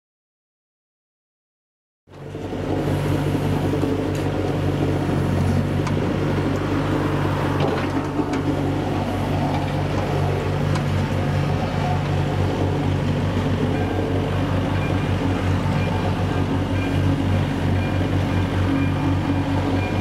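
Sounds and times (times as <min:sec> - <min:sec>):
vehicle engine running: 0:02.1 - 0:20.0.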